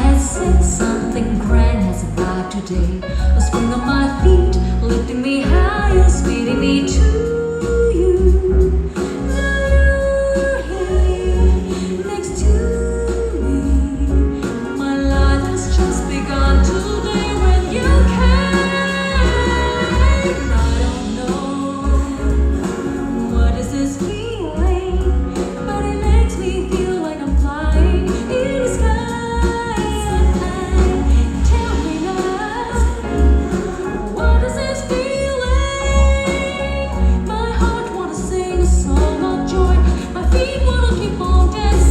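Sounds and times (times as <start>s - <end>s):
woman singing over heavy bass: 0.0s - 41.9s.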